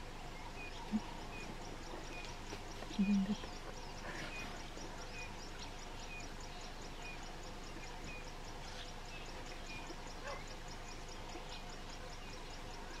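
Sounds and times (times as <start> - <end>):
bird-like chirps: 0.4 - 13.0.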